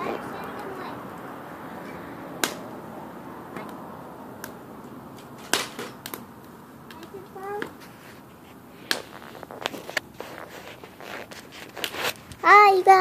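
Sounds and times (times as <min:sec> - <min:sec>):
bonfire hissing and crackling: 0:00.0 - 0:13.0.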